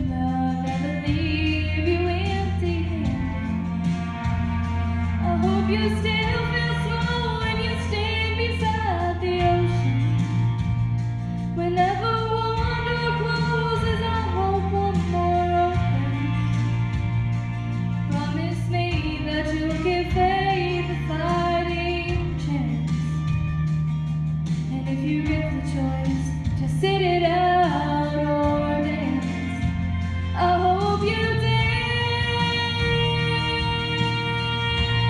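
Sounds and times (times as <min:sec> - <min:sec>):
woman singing into microphone: 0:00.0 - 0:04.4, 0:05.1 - 0:10.8, 0:11.5 - 0:16.8, 0:18.1 - 0:23.5, 0:24.7 - 0:35.0
recorded country accompaniment: 0:00.0 - 0:35.0.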